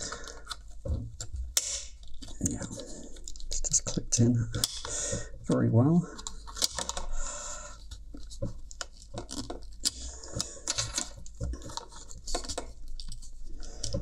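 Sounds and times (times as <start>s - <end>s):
plastic scraping and clicking: 0.0s - 14.0s.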